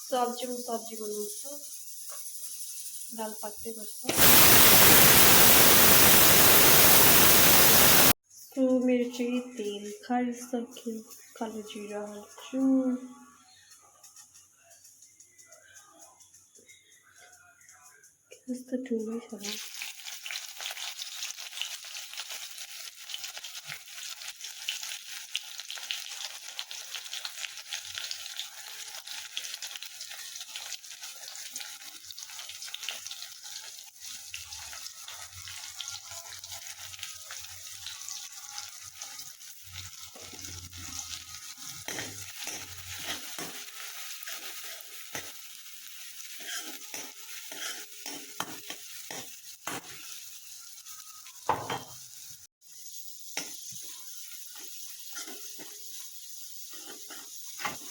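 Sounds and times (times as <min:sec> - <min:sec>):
hot oil sizzling in a pan: 0:00.0 - 0:08.2, 0:18.5 - 0:57.9.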